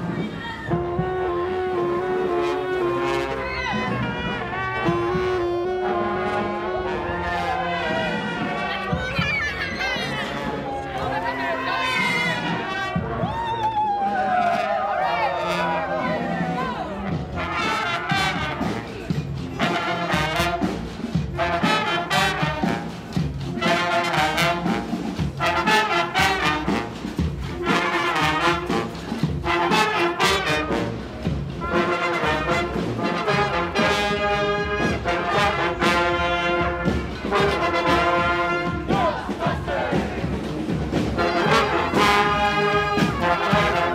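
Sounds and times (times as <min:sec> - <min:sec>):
brass band playing: 0:00.0 - 0:43.9.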